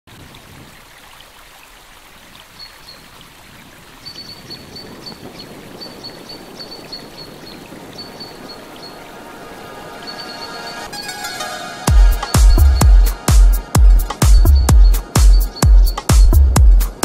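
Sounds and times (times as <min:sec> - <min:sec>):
wind noise on microphone: 0:00.1 - 0:01.1, 0:02.5 - 0:11.2, 0:12.0 - 0:17.0.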